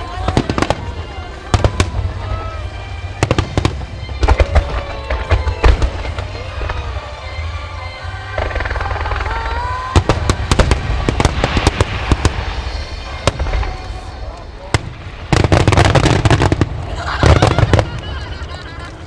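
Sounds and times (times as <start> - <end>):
low rumble: 0.0 - 17.2
fireworks shells bursting: 0.0 - 19.0
music playing: 0.0 - 19.0.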